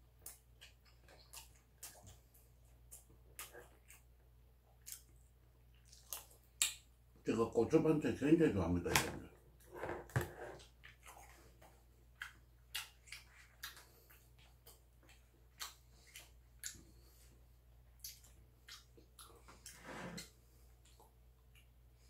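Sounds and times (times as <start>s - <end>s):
soft chewing: 0.0s - 7.0s, 9.6s - 22.0s.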